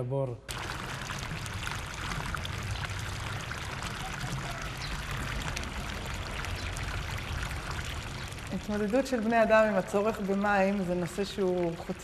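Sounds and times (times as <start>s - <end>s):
water splashing into pool: 0.5s - 12.0s.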